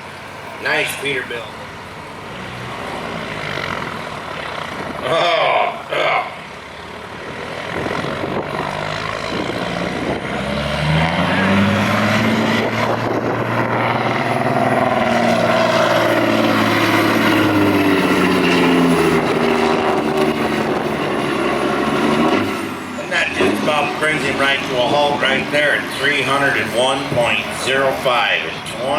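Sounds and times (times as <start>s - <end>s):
diesel truck engine revving: 0.0s - 28.9s.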